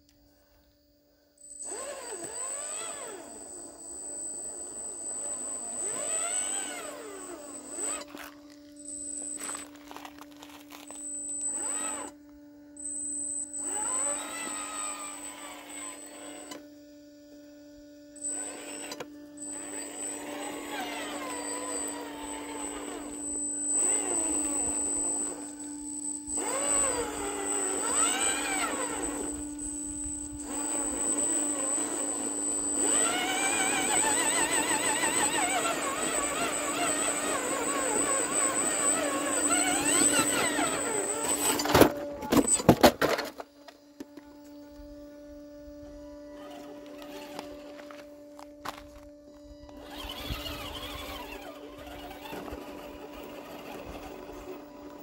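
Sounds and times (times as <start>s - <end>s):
rc car motor whining: 1.4s - 55.0s.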